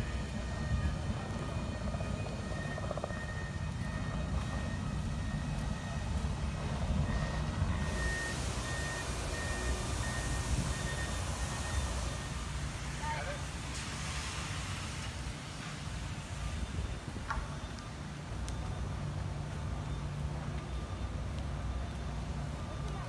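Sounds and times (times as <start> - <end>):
reversing alarm beeping: 0.0 - 13.6, 14.2 - 23.0.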